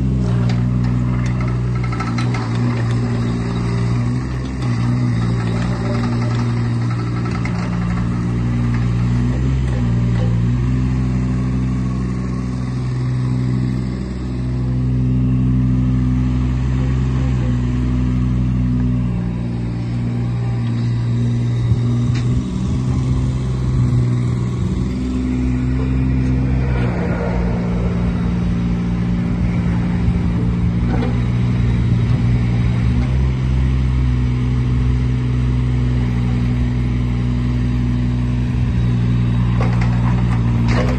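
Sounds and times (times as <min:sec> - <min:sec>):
mini excavator diesel engine: 0:00.0 - 0:40.9.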